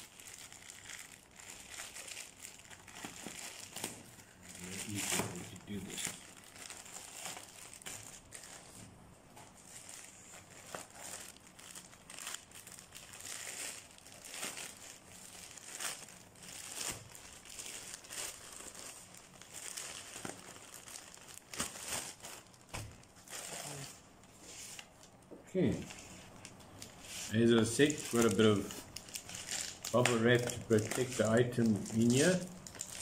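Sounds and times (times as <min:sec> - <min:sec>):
plastic bag crinkling and rustling: 0:00.0 - 0:25.1, 0:25.7 - 0:33.0.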